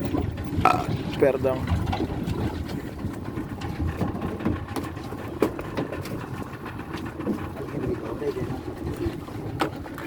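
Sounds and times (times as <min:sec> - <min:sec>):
boat motor running: 0:00.0 - 0:10.0.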